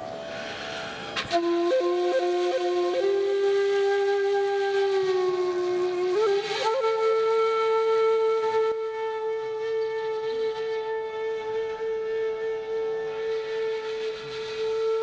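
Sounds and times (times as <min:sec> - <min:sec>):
bamboo flute long notes: 0:00.0 - 0:15.0.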